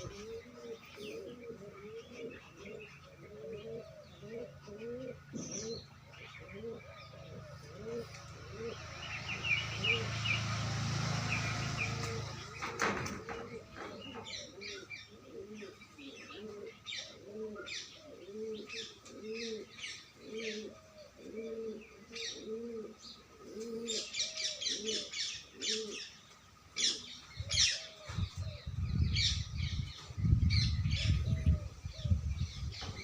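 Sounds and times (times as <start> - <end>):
bird cooing: 0.0 - 10.6, 11.3 - 26.2, 26.8 - 33.0
birds chirping: 0.0 - 33.0.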